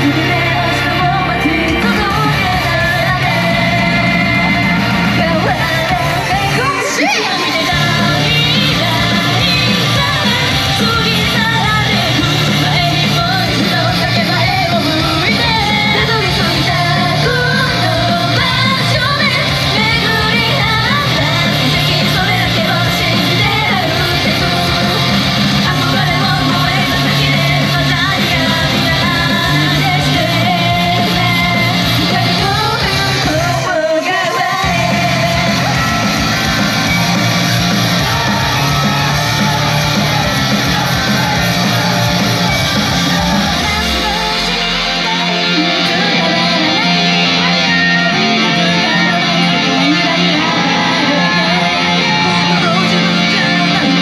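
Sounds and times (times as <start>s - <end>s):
electric guitar: 0.0s - 54.0s
live rock pop song: 0.0s - 54.0s
person singing: 0.0s - 54.0s
shouts: 0.5s - 54.0s.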